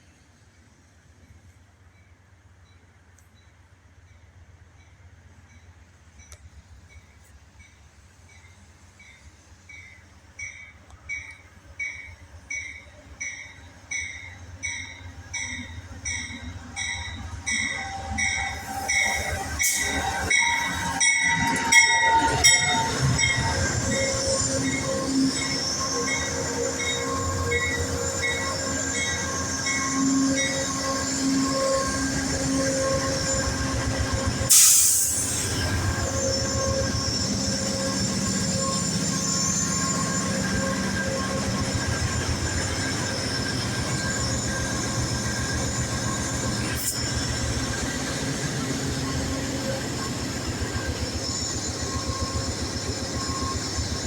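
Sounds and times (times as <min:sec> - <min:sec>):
train wheels and brakes squealing: 0:00.0 - 0:54.0.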